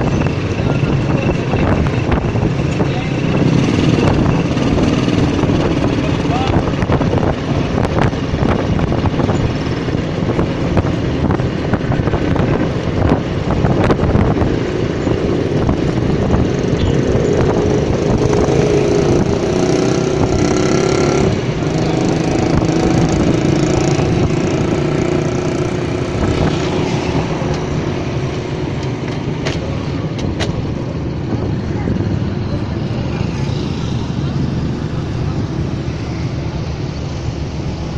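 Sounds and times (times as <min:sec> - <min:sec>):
motorcycle engine running: 0:00.0 - 0:37.9
street traffic: 0:00.0 - 0:37.9
wind noise on microphone: 0:00.0 - 0:37.9.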